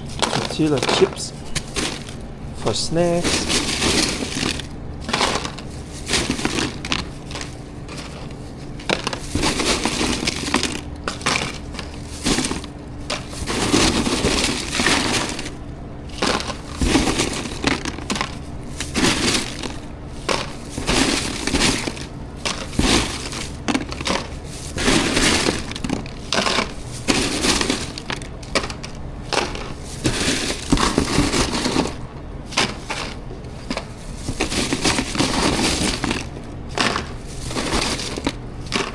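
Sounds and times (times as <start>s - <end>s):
chip bag crinkling: 0.0s - 38.9s
chips crunching: 0.0s - 38.9s.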